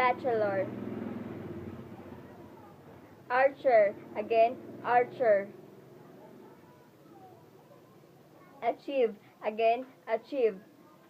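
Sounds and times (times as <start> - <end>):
faint indistinct background sound: 0.0 - 11.0.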